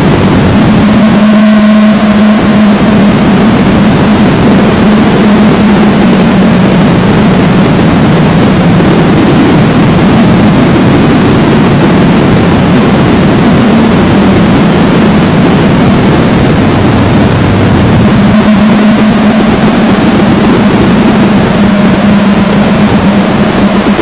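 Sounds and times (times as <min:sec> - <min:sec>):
engine running steadily: 0:00.0 - 0:24.0
loud rushing noise: 0:00.0 - 0:24.0.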